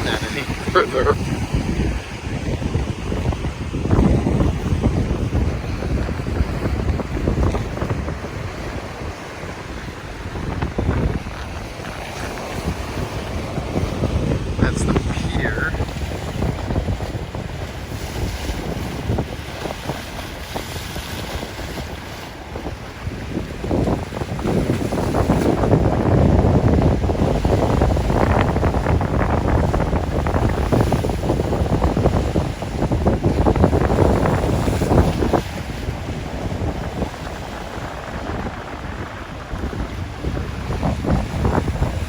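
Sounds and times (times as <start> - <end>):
waves washing: 0.0 - 42.0
wind buffeting microphone: 0.0 - 42.0.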